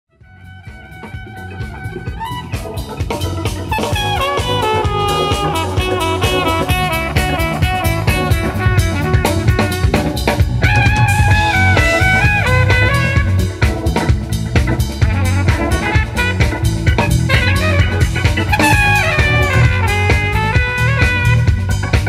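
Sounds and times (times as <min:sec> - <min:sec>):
bass line: 0:00.1 - 0:22.0
live band music: 0:00.1 - 0:22.0
bass drum: 0:00.2 - 0:22.0
melodic lead: 0:00.2 - 0:22.0.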